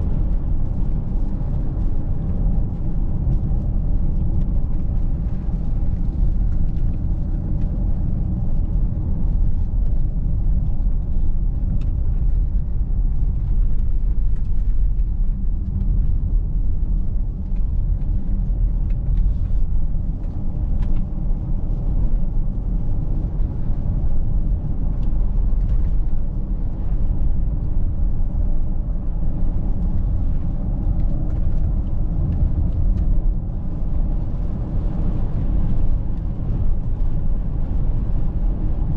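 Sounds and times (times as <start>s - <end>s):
tyres rumbling on road: 0.0s - 38.9s.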